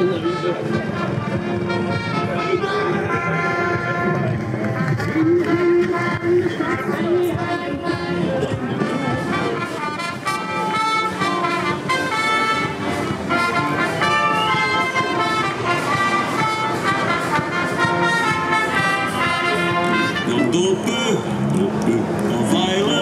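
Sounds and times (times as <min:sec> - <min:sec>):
brass music with trumpets: 0:00.0 - 0:21.5.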